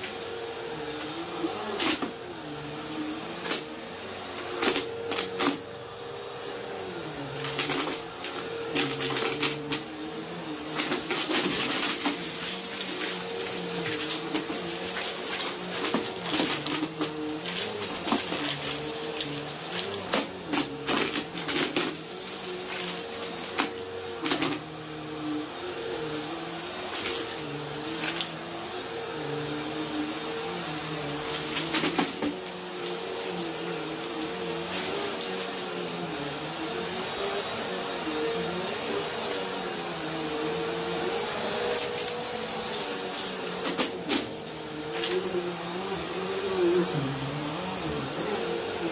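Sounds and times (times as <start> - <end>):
upright vacuum running: 0.0 - 48.9.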